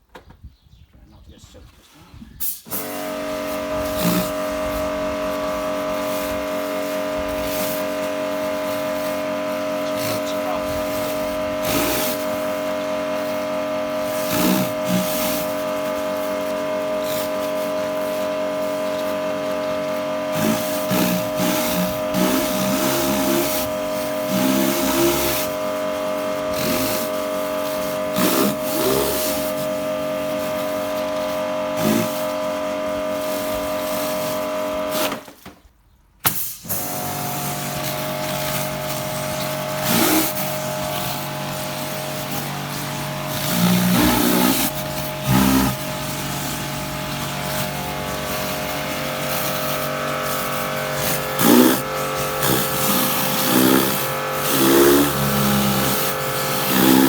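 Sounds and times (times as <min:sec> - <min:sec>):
water hissing on paving: 0:02.5 - 0:35.0, 0:36.3 - 0:57.0
pressure washer motor whine: 0:02.6 - 0:35.4, 0:36.3 - 0:57.0.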